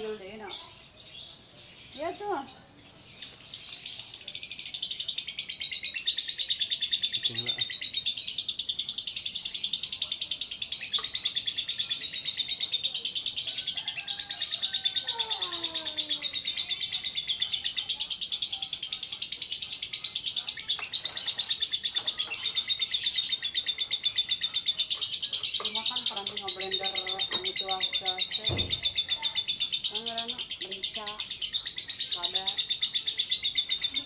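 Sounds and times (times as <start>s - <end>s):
lovebirds chattering: 0.0s - 34.0s.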